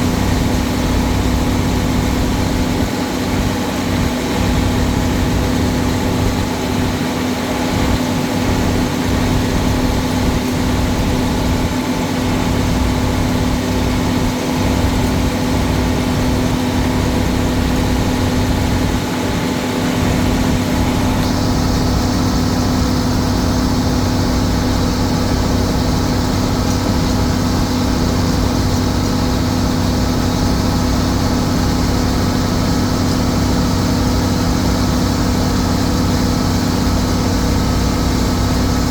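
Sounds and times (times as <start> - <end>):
tractor engine humming: 0.0 - 38.9.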